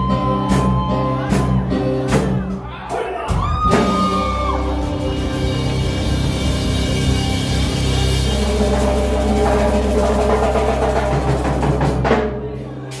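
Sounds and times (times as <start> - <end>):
band music: 0.0 - 13.0
drum kit and bass beat: 0.0 - 13.0.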